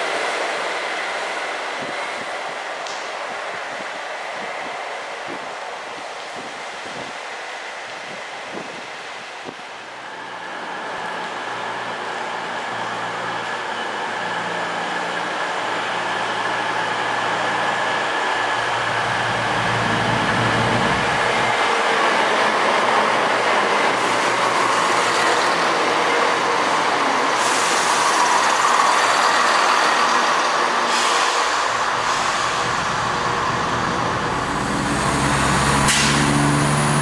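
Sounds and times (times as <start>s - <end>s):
rumbling train wheels: 0.0s - 37.0s
train engine drone: 0.0s - 37.0s.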